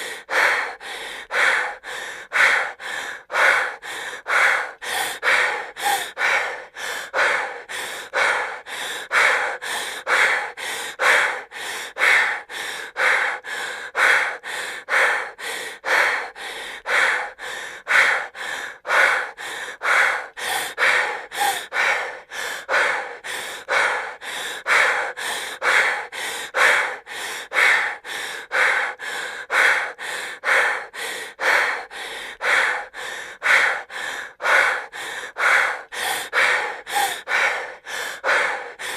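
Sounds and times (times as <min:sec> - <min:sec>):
woman breathing heavily: 0:00.0 - 0:38.9.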